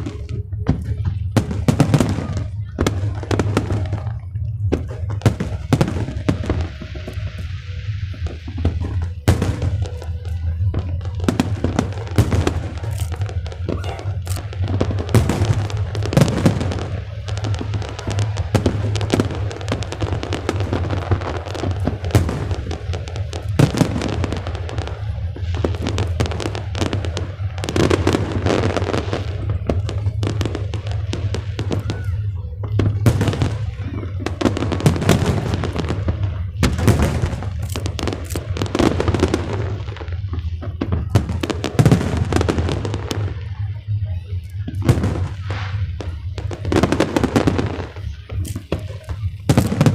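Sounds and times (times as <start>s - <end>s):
fireworks bangs and crackles: 0.0s - 49.9s
music playing: 0.0s - 49.9s.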